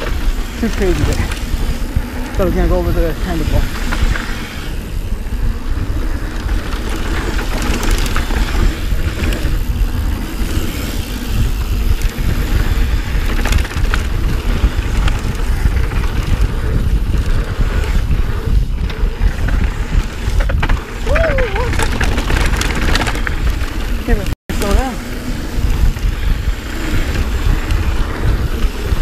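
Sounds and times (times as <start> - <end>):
bike clattering over bumps: 0.0 - 29.0
bike tyres rolling on dirt: 0.0 - 29.0
wind rumble on microphone: 0.0 - 29.0.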